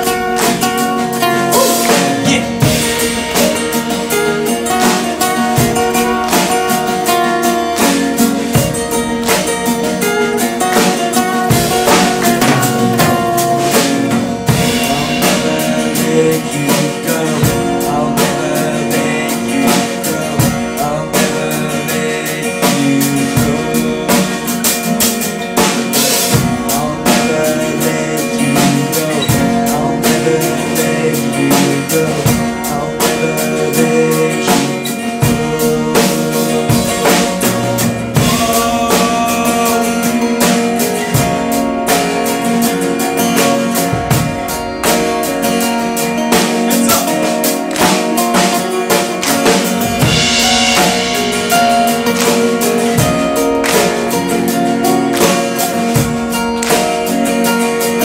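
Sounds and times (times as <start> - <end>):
drum kit beat: 0.0 - 58.0
strummed guitars: 0.0 - 58.0.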